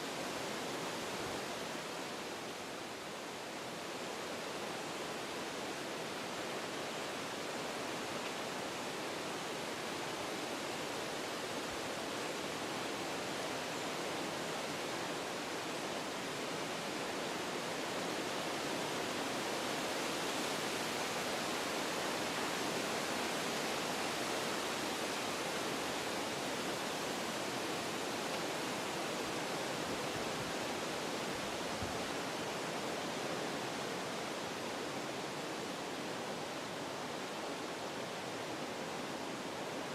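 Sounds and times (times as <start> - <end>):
wind rushing through trees: 0.0 - 39.9.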